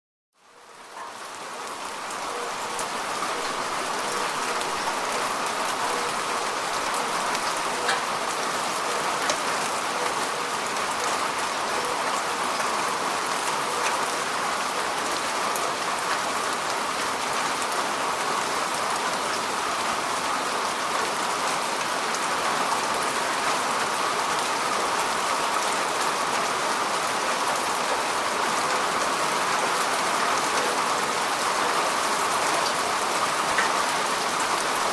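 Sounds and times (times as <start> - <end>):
steady falling rain: 0.4 - 34.9.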